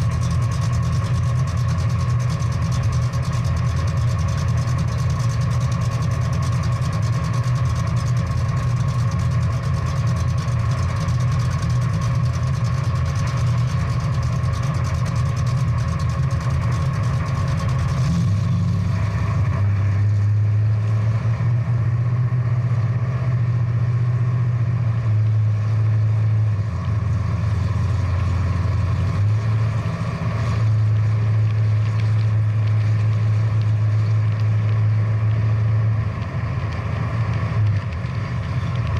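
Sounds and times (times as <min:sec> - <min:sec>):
car engine deep rumble: 0:00.0 - 0:38.9.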